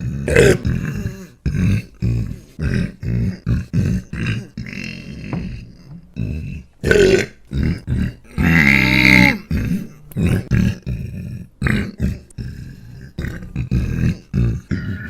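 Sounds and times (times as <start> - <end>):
man belching: 0.0 - 15.0.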